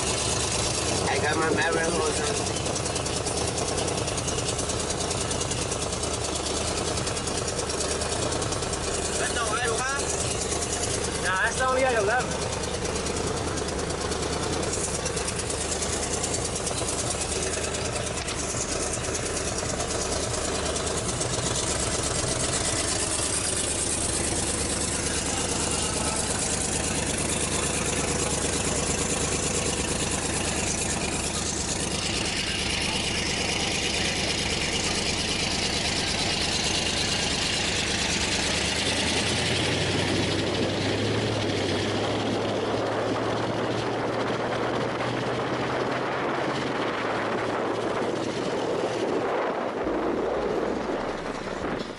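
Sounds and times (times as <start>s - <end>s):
car engine running steadily: 0.0s - 51.9s.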